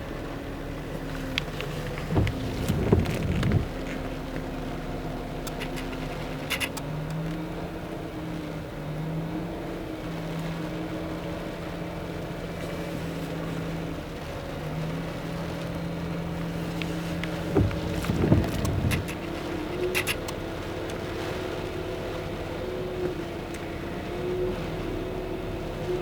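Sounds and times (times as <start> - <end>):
truck engine running: 0.0 - 10.6, 11.2 - 22.6.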